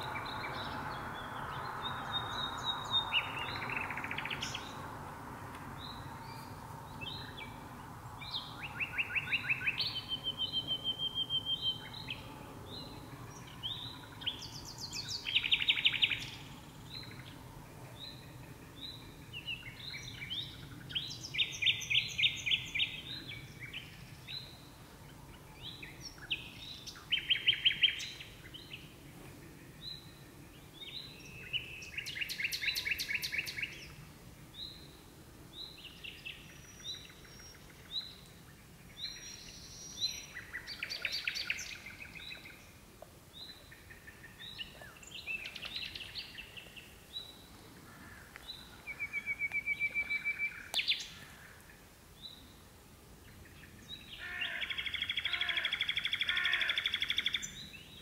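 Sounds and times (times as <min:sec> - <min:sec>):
nightingale singing: 0:00.0 - 0:05.0, 0:05.6 - 0:17.4, 0:18.0 - 0:29.0, 0:29.7 - 0:52.6, 0:53.2 - 0:58.0.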